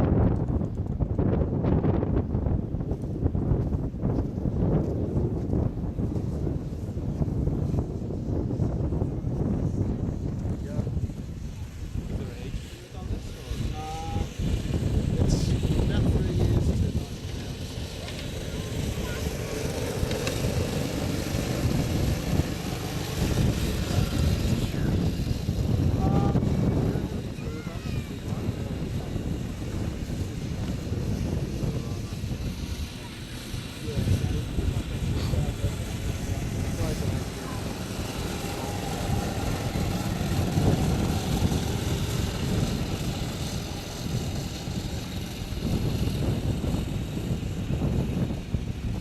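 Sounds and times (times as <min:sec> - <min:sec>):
snowmobile engine running: 0:03.1 - 0:49.0.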